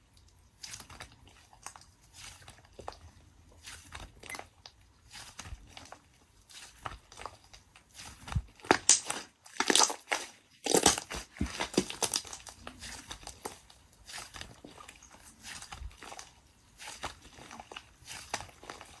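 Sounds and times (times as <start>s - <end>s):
crinkling and crunching: 0.0s - 19.0s.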